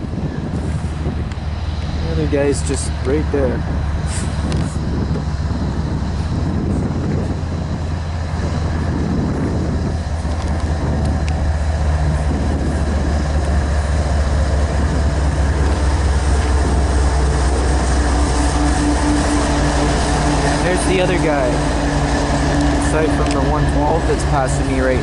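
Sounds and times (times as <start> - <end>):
steady hum: 0.0 - 25.0
train rumbling past: 0.0 - 25.0.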